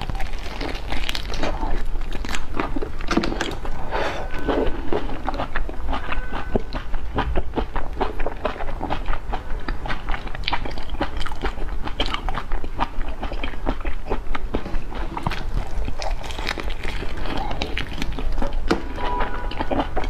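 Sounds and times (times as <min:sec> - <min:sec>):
chewing and crunching shrimp: 0:00.0 - 0:20.0.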